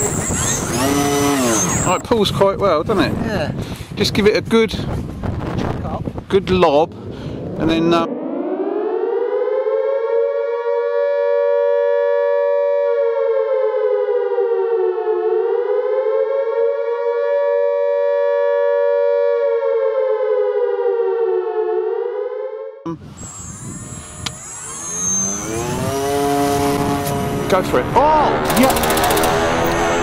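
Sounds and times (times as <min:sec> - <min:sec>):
air-raid siren wailing: 0:00.0 - 0:02.0, 0:07.4 - 0:30.0.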